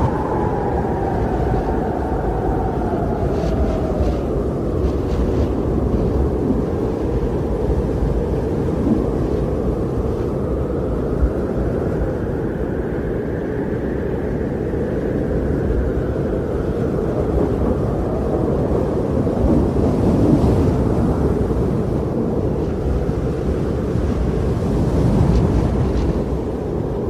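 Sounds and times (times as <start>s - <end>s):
wind blowing: 0.0s - 27.0s.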